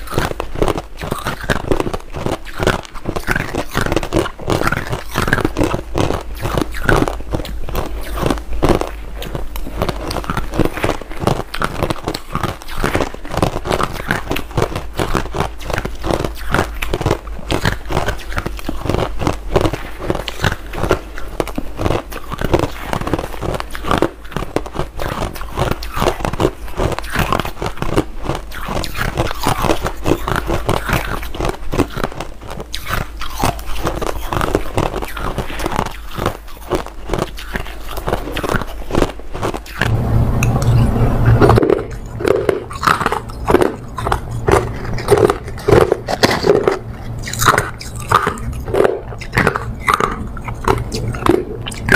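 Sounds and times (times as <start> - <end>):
crushed ice being chewed: 0.0 - 40.0, 40.7 - 51.9.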